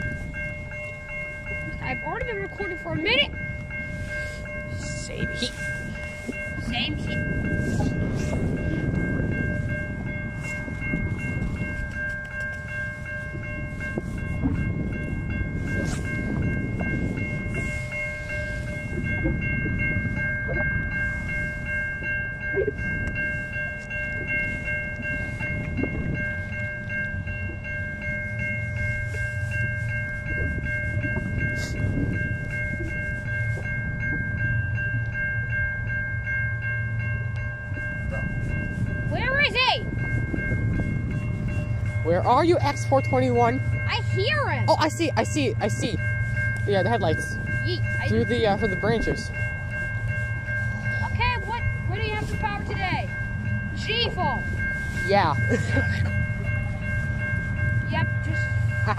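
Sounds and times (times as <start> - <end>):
crossing bell ringing: 0.0 - 58.9
wind buffeting microphone: 0.0 - 58.9.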